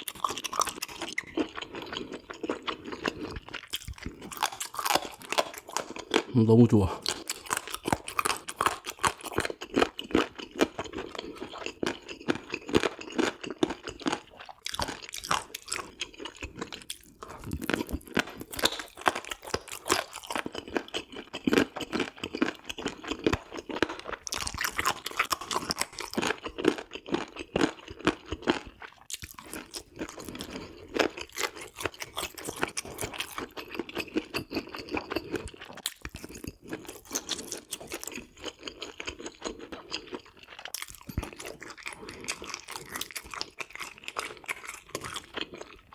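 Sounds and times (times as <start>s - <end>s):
wet chewing: 0.0s - 45.9s.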